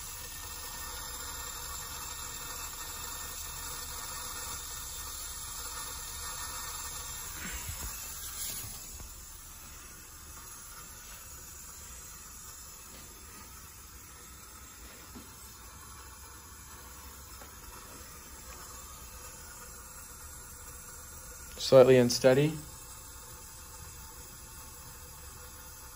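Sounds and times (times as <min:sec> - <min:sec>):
hiss of water flowing through tubing: 0:00.0 - 0:25.9.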